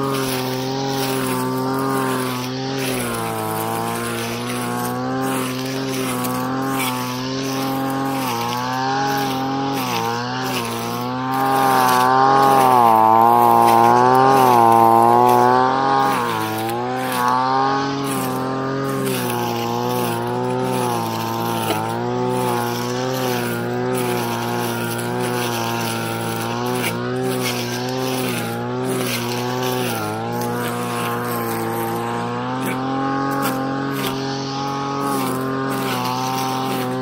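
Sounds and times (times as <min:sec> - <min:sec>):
blade cutting weeds: 0:00.0 - 0:37.0
brush cutter engine: 0:00.0 - 0:37.0.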